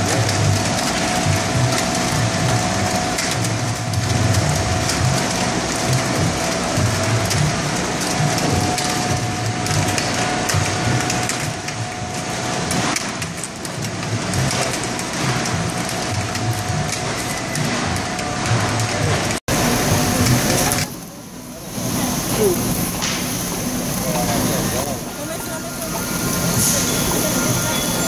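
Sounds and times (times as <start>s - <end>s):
conveyor machinery hum: 0.0s - 28.0s.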